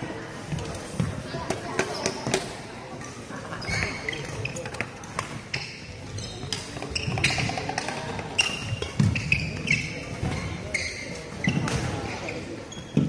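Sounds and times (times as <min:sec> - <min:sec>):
shoes squeaking on court: 0:00.4 - 0:13.0.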